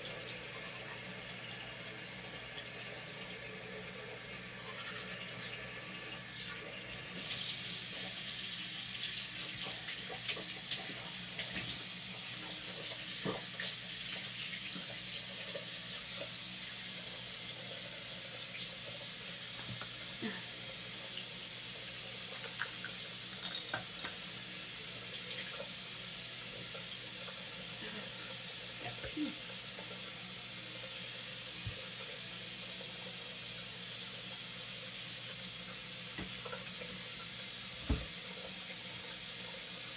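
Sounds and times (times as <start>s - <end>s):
faucet running into basin: 0.0s - 39.9s.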